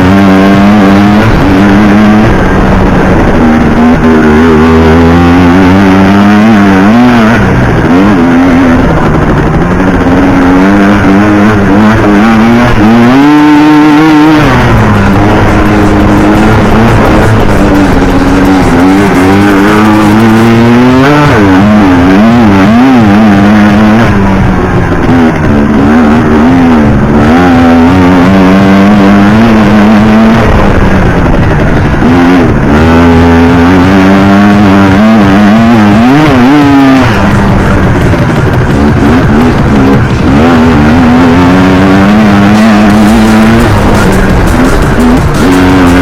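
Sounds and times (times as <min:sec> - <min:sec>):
quad engine revving: 0:00.0 - 0:46.0.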